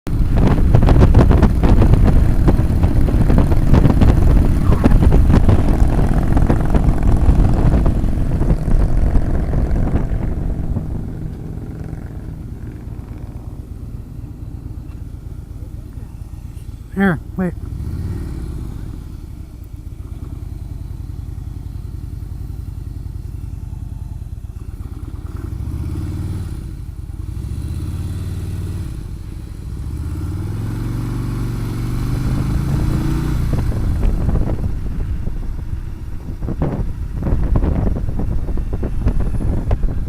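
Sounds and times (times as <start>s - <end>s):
motorcycle engine accelerating: 0.1s - 40.0s.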